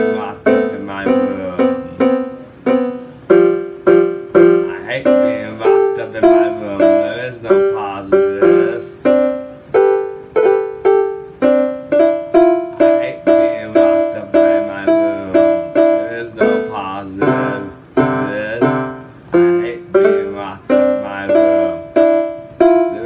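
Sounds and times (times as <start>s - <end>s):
piano keyboard music: 0.0s - 23.0s.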